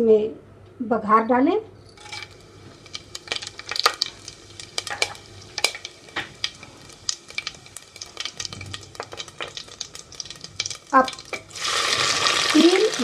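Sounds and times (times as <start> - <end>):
spices sizzling and popping in oil: 1.9 - 13.0.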